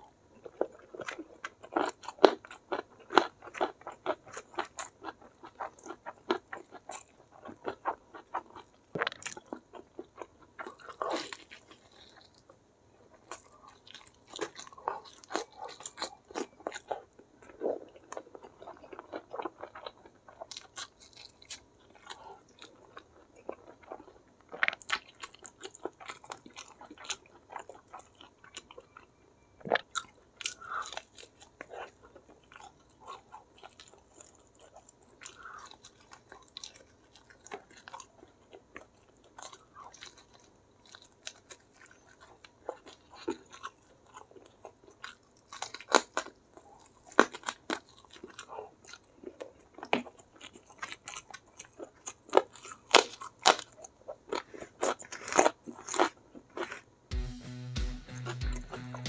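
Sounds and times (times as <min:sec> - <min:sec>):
person chewing and biting: 0:00.4 - 0:12.4, 0:13.1 - 0:29.0, 0:29.6 - 0:56.9.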